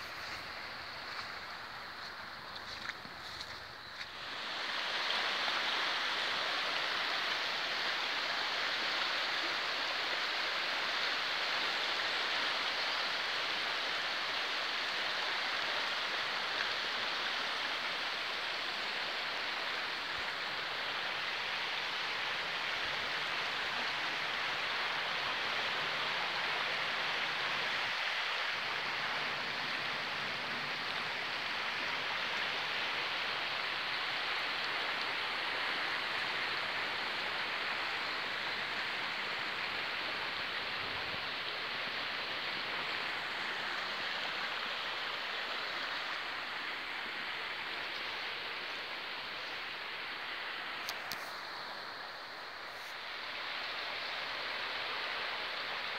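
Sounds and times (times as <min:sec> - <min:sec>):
flooded river rushing: 0:00.0 - 0:55.9.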